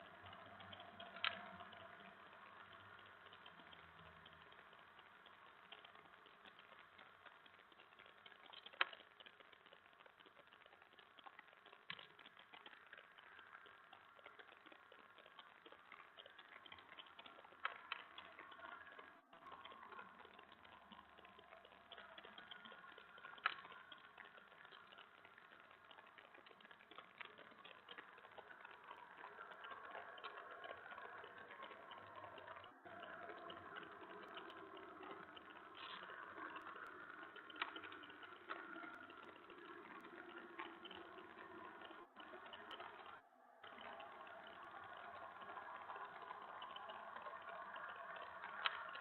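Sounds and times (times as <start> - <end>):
faint steady hiss: 0.0 - 49.0.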